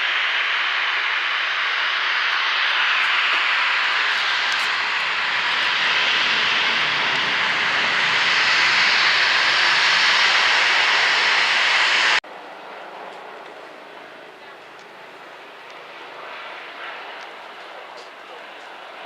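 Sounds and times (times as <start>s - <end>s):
aircraft engines running: 0.0s - 19.0s.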